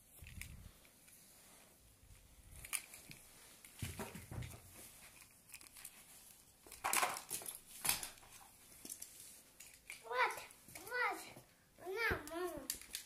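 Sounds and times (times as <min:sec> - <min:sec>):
plastic toy cars rustling and knocking: 0:02.4 - 0:13.0.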